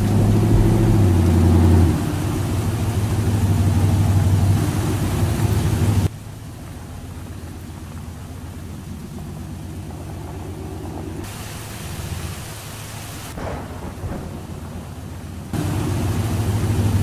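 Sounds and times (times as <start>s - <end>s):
steady hiss: 0.0s - 8.5s, 10.0s - 17.0s
low engine hum: 0.0s - 17.0s.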